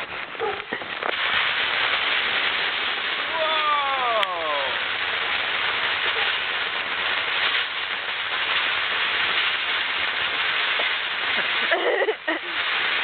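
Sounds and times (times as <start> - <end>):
fireworks hissing and crackling: 0.0 - 13.0.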